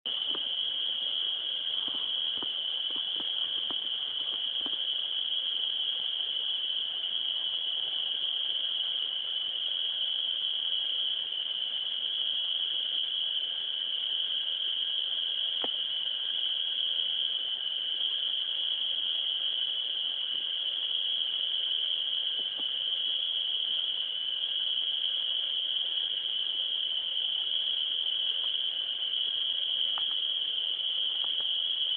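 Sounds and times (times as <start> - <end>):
crickets chirping: 0.0 - 31.9.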